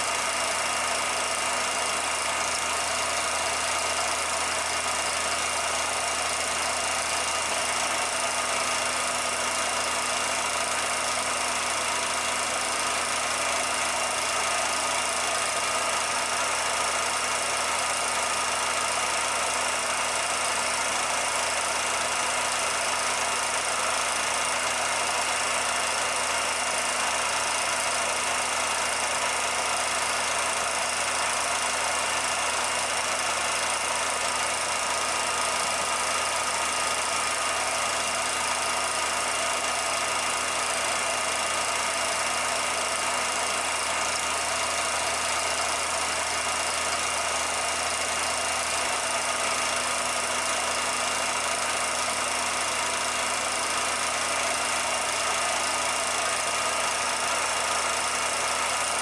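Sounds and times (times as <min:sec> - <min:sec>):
film projector humming: 0:00.0 - 0:59.0.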